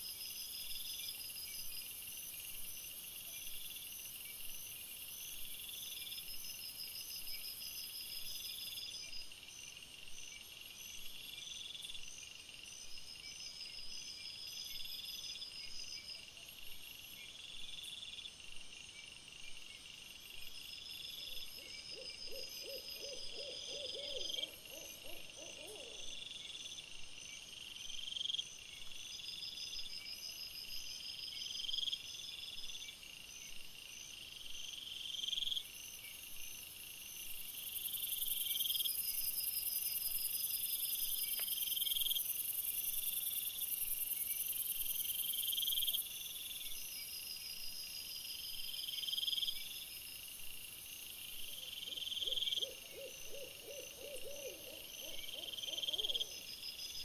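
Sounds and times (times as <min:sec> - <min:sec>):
night insects chirping: 0:00.0 - 0:57.0.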